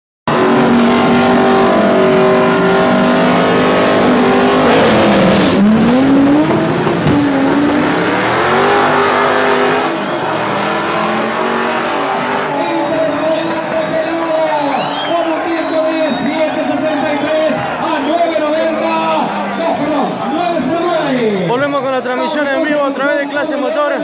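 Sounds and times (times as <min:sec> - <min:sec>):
drag racing car engines revving: 0:00.3 - 0:21.2.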